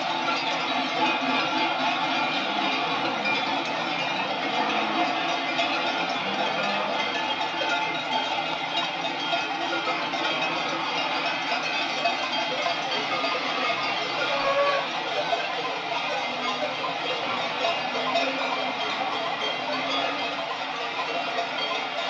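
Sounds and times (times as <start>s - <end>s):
cowbells clanking: 0.0s - 22.0s.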